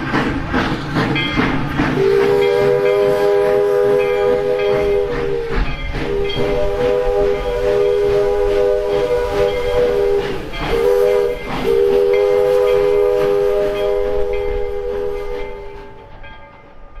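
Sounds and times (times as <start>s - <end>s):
steam locomotive exhaust chuffing: 0.0s - 17.0s
steam whistle chord blasts: 1.9s - 16.2s.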